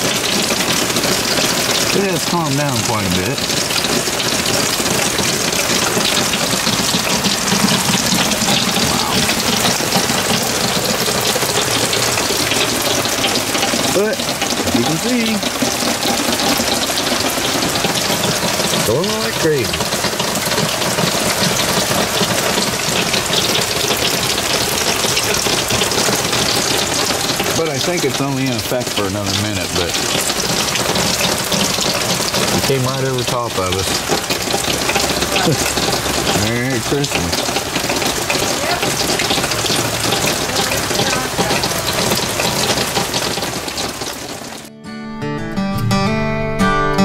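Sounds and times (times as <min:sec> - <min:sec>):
heavy rain pouring: 0:00.0 - 0:44.7.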